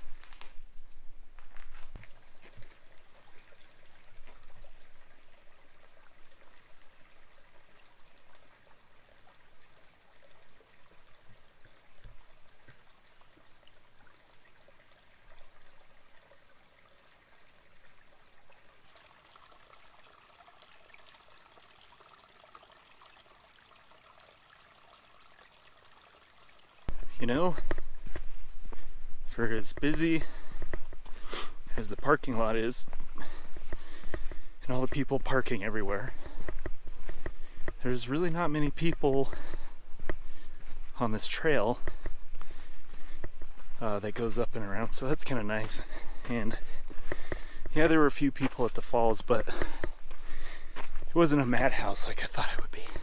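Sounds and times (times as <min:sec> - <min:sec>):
running and trickling water: 0:00.0 - 0:53.0.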